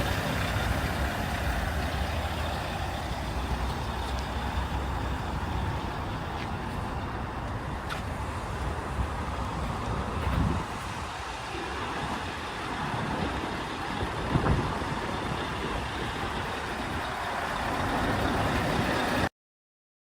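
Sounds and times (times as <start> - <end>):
truck diesel engine running: 0.0 - 19.3.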